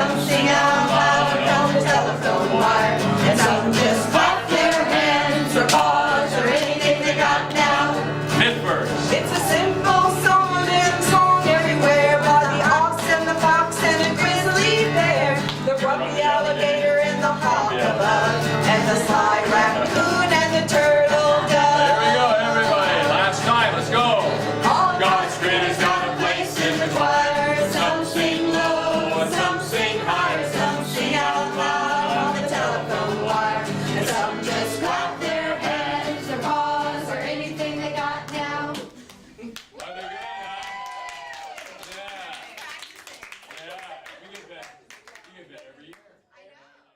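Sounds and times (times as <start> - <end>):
voices singing: 0.0 - 39.0
guitar accompaniment: 0.0 - 39.5.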